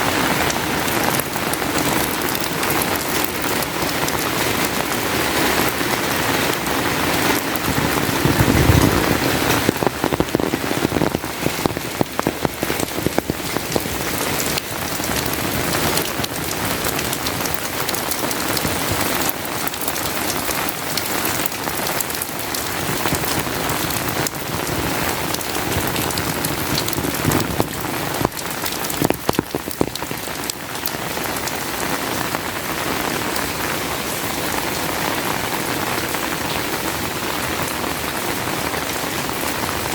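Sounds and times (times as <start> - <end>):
heavy rain with drop hits: 0.0 - 39.9.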